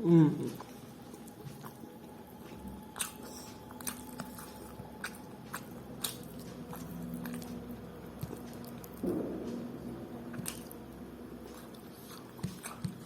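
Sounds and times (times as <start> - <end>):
close chewing with mouth sounds: 0.0 - 9.1, 10.2 - 13.0
faint steady hum: 0.0 - 13.0.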